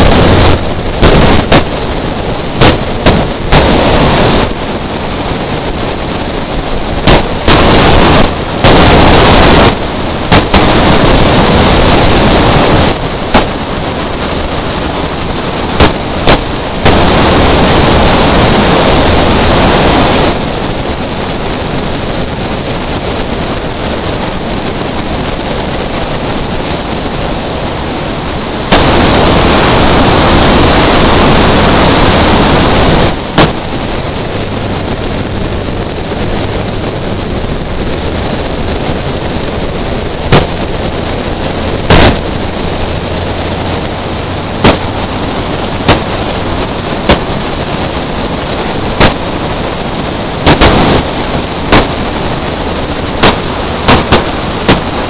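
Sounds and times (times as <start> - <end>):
car running noise: 0.0 - 55.0
wind buffeting microphone: 0.0 - 55.0.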